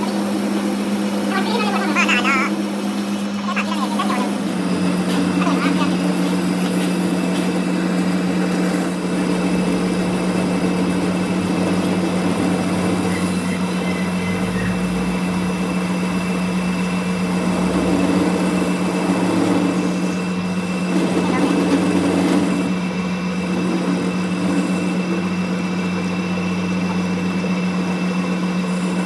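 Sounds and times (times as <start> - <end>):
machine humming with hiss: 0.0 - 29.0.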